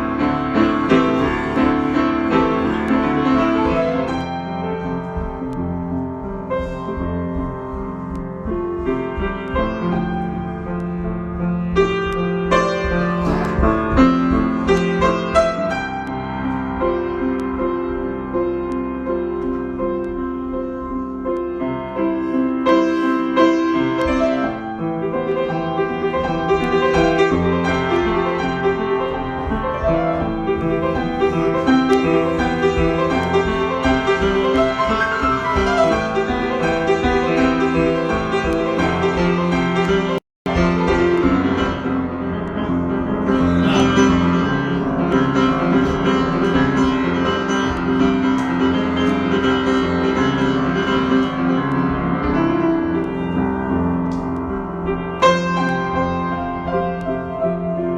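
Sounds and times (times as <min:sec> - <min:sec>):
solo piano improvisation: 0:00.0 - 0:57.9.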